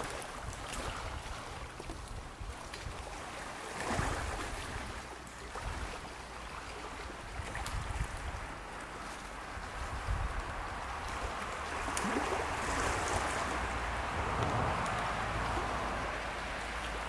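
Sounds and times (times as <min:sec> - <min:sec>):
lake water washing on shore: 0:00.0 - 0:17.0
steady wind: 0:00.0 - 0:17.0
wind rumbling on microphone: 0:00.0 - 0:17.0.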